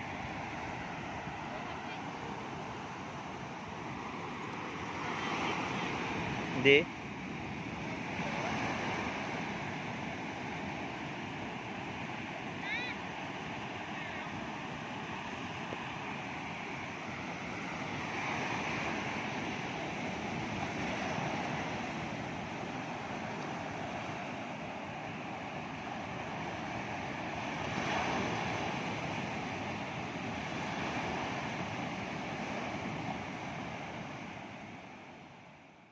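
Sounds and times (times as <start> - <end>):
ocean surf breaking: 0.0 - 35.6.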